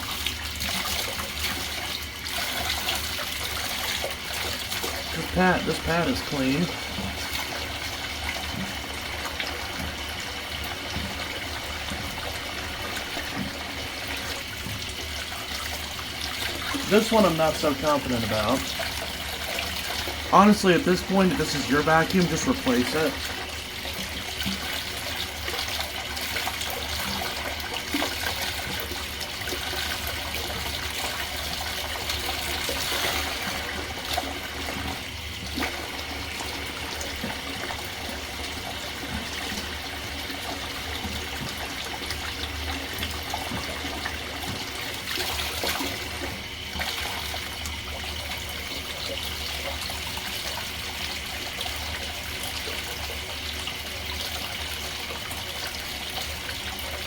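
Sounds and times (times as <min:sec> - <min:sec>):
tap water running into sink: 0:00.0 - 0:57.0
water splashing on filter: 0:00.0 - 0:57.0.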